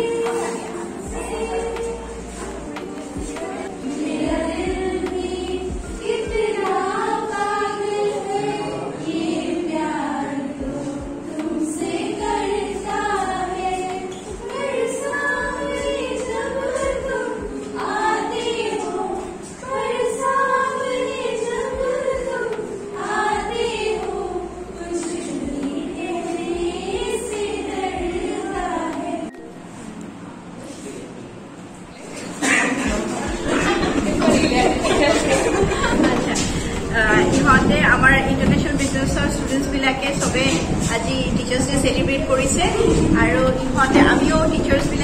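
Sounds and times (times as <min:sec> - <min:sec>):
young women singing together: 0:00.0 - 0:29.8, 0:32.1 - 0:45.0.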